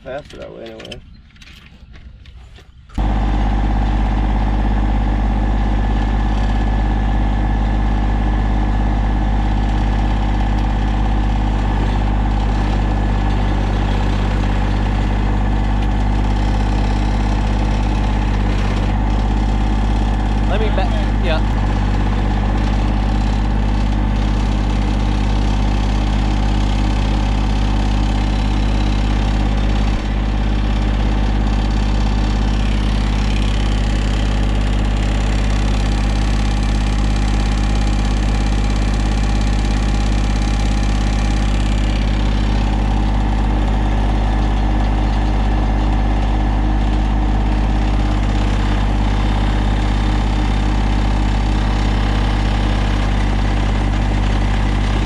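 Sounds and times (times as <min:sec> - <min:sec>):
diesel tractor engine idling: 0:02.9 - 0:55.0.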